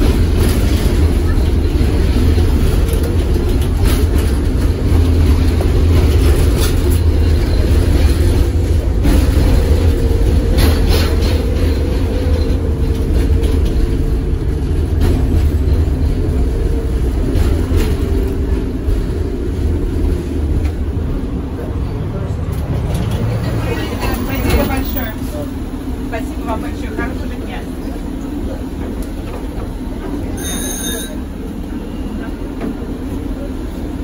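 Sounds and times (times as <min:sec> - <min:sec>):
tram wheels rumbling on rails: 0:00.0 - 0:34.0.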